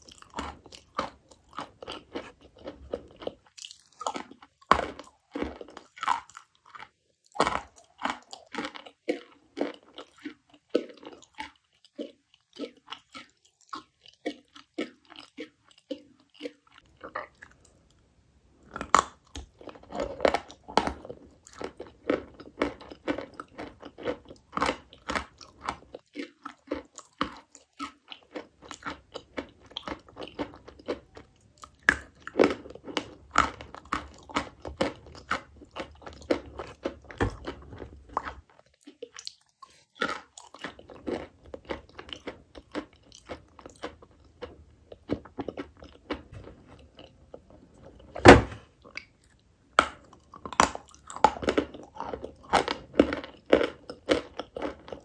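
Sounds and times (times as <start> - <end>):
chalk being chewed: 0.0 - 17.8, 18.8 - 47.5.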